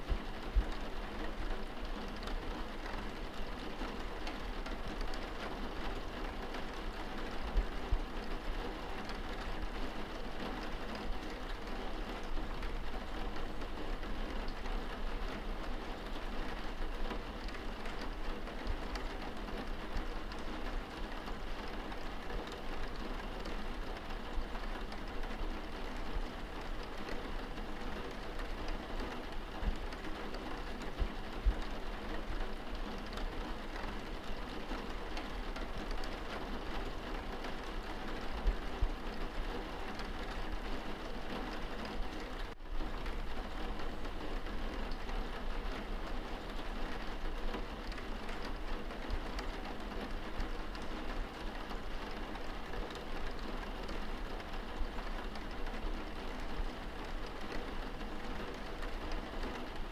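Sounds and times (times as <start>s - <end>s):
rain on window glass: 0.0s - 59.9s.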